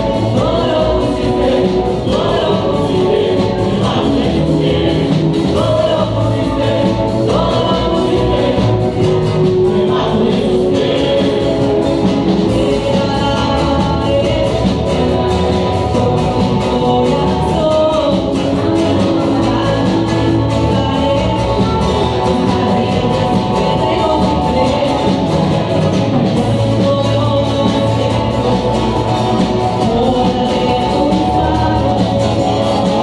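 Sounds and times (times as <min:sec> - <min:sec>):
acoustic guitar: 0:00.0 - 0:33.0
choir singing a hymn: 0:00.0 - 0:33.0
electric bass guitar: 0:00.0 - 0:33.0.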